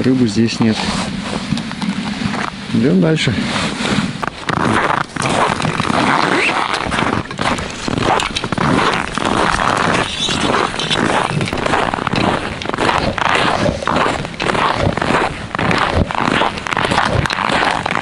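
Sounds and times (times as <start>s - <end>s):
footsteps crunching through snow: 0.5s - 18.0s.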